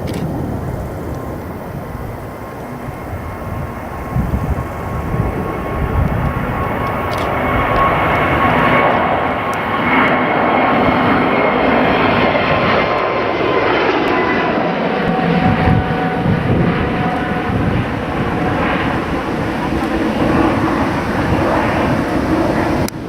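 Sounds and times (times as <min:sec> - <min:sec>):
jet engines roaring: 0:00.0 - 0:23.0
thin steady whine: 0:00.0 - 0:23.0.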